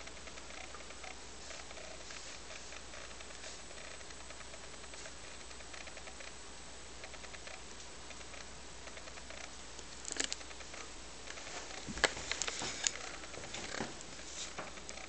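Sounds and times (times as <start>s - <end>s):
faint hiss and hum: 0.0s - 15.0s.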